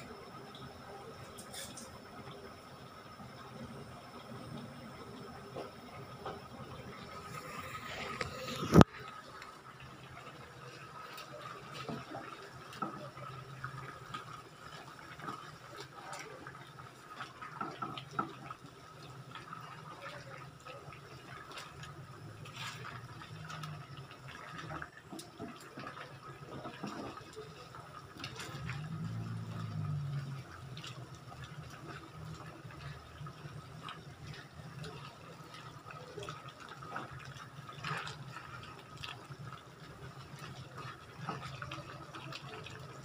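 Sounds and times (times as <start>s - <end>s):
food simmering in sauce: 0.0s - 43.0s.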